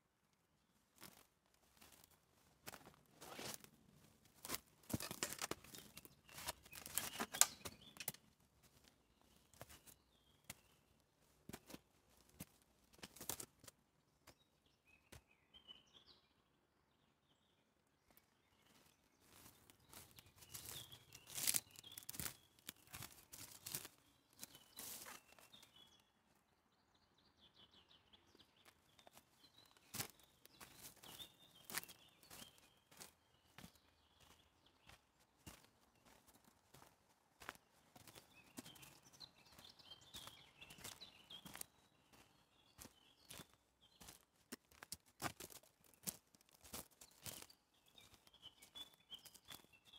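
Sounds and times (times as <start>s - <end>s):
footsteps on forest path: 1.0s - 13.7s, 18.5s - 26.0s, 28.2s - 49.9s.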